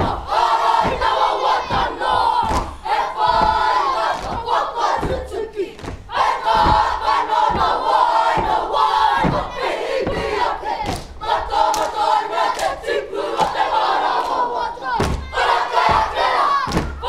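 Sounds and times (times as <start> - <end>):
stamping and body-slap thuds: 0.0 - 11.9, 15.0 - 17.0
group chanting in unison: 0.0 - 17.0.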